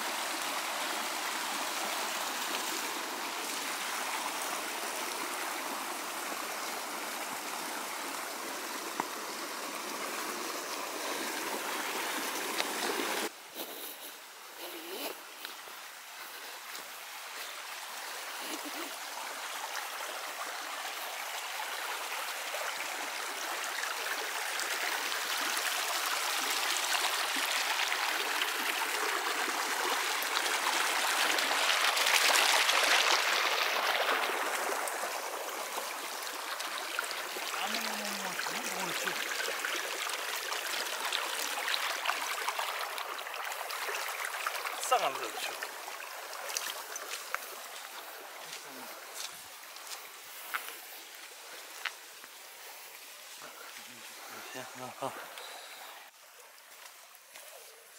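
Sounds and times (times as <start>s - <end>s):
fast-flowing stream rushing: 0.0s - 13.3s, 15.6s - 56.8s.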